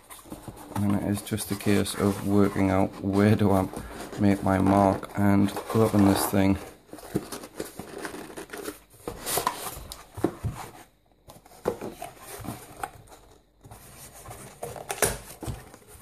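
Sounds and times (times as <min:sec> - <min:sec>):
cardboard packaging rubbing and scraping: 0:00.0 - 0:16.0.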